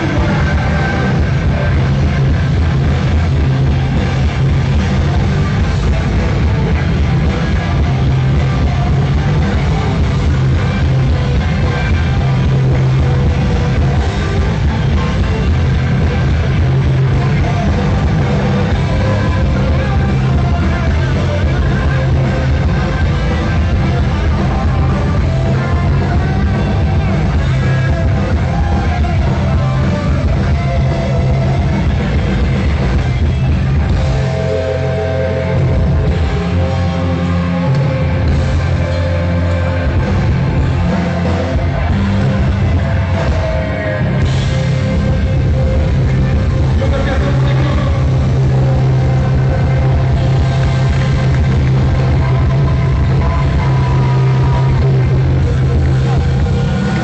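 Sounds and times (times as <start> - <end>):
bass guitar: 0.0 - 57.0
drums: 0.0 - 57.0
electric guitar: 0.0 - 57.0
person singing: 0.0 - 57.0.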